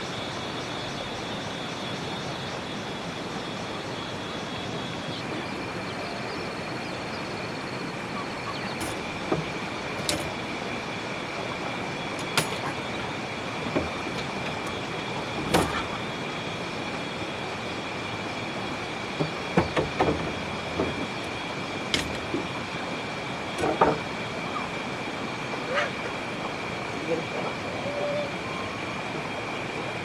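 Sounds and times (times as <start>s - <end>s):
outdoor background hiss: 0.0s - 30.0s.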